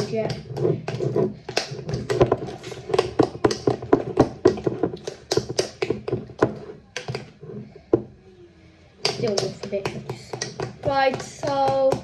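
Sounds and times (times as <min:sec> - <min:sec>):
spoon scraping mixing bowl: 0:00.0 - 0:08.0, 0:09.0 - 0:12.0.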